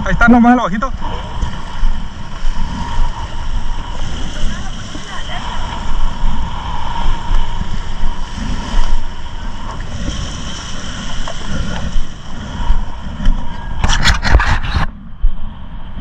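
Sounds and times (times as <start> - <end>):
wind buffeting microphone: 0.0 - 16.0
water sloshing: 0.8 - 14.8.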